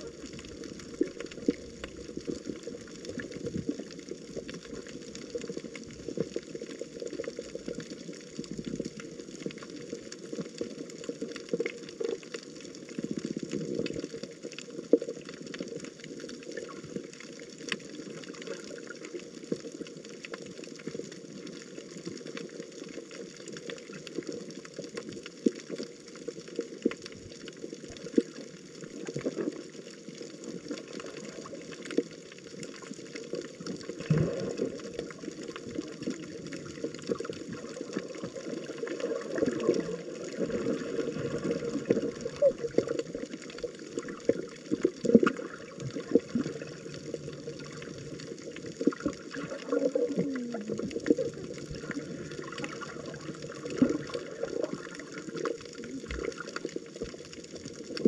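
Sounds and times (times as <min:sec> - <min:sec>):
water running and splashing: 0:00.0 - 0:58.0.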